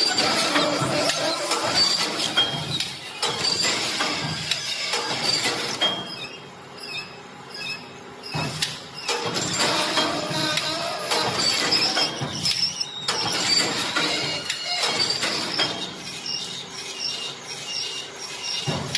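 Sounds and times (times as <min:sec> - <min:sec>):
weaving machine clacking: 0:00.0 - 0:06.2, 0:08.5 - 0:18.9
machine parts squeaking: 0:00.0 - 0:18.9.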